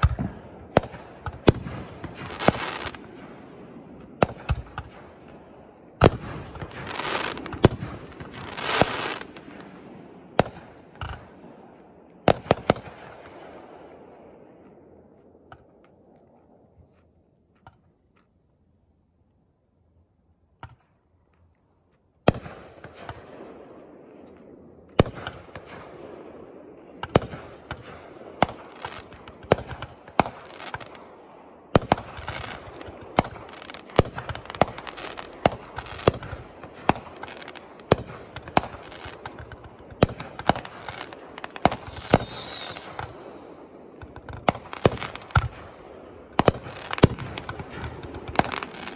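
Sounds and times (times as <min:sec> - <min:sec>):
fireworks bangs: 0:00.0 - 0:16.9, 0:22.2 - 0:48.9
fireworks crackling: 0:00.0 - 0:17.0, 0:22.3 - 0:48.9
faint fireworks pops: 0:00.0 - 0:18.4, 0:20.5 - 0:31.2, 0:31.8 - 0:48.9.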